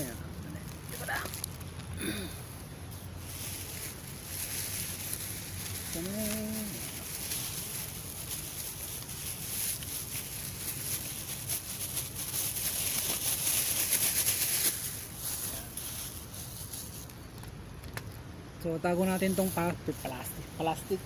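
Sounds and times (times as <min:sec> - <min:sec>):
plastic bag crinkling: 0:00.0 - 0:18.2.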